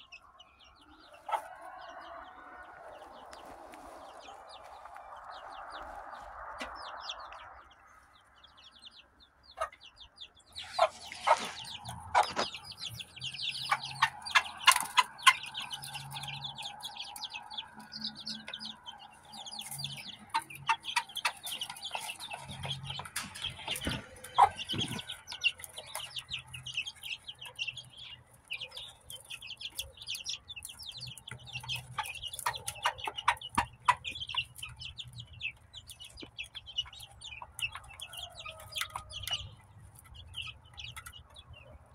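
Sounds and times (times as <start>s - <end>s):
hen clucking: 0.0s - 8.0s, 9.4s - 41.9s
chicks peeping: 0.0s - 41.9s.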